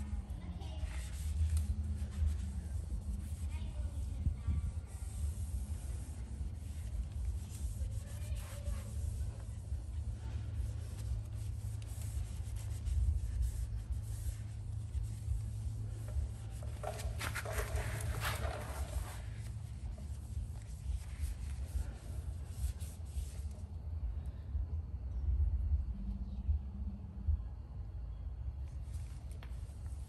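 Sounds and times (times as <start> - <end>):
pad wiping on wheel: 0.0 - 23.8, 28.7 - 30.0
steady low hum: 0.0 - 30.0.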